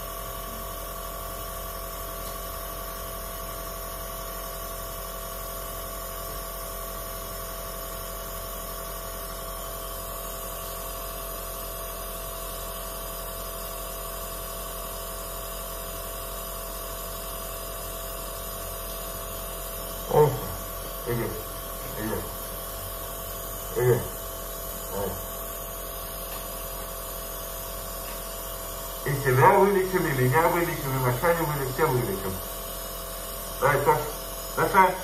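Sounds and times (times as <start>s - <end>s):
nebulizer compressor humming: 0.0s - 35.0s.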